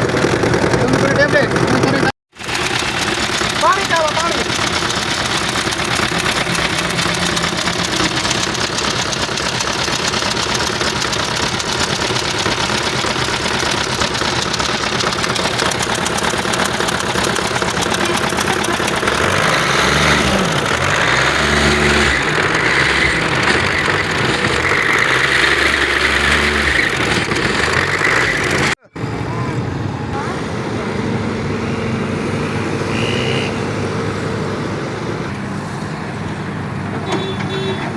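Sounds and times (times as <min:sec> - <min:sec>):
engine clattering: 0:00.0 - 0:29.2, 0:30.1 - 0:37.9.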